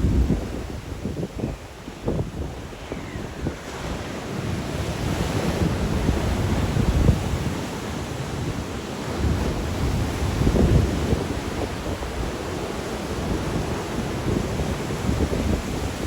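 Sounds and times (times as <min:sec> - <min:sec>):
waves breaking on shore: 0:00.0 - 0:16.0
wind rumbling on microphone: 0:00.0 - 0:16.0.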